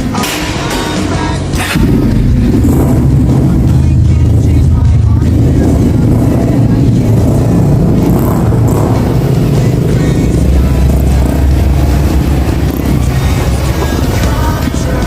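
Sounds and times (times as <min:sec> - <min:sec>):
motorcycle engine running: 0:00.0 - 0:15.0
music playing: 0:00.0 - 0:15.0.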